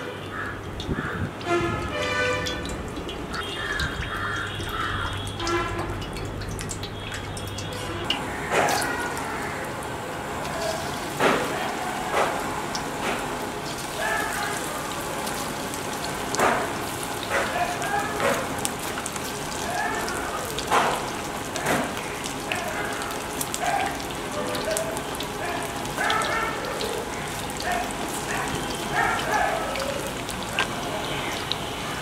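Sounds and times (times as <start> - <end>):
food deep-frying in oil: 0.0 - 32.0
oil crackling and spitting: 0.1 - 32.0.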